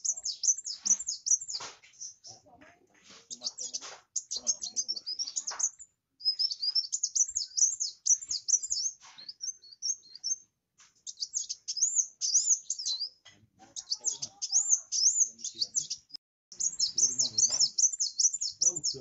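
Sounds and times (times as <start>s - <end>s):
sunbird chirps and trills: 0.0s - 19.0s.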